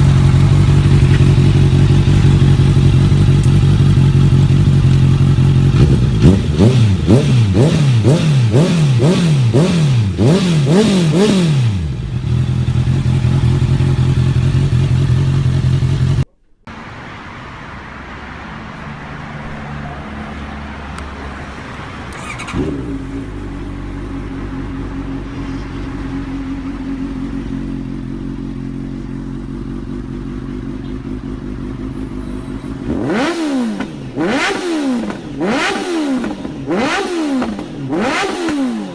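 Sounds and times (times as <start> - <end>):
motorcycle engine idling: 0.0 - 16.3, 22.1 - 38.9
motorcycle throttle blips: 0.0 - 16.6, 21.7 - 38.9.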